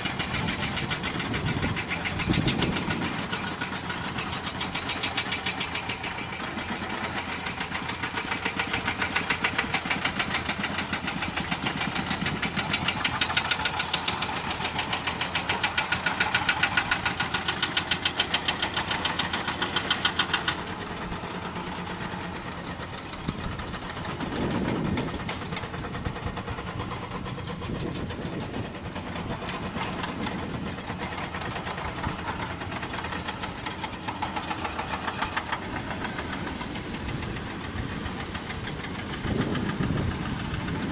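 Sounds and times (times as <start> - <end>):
diesel engine knocking: 0.0 - 40.9.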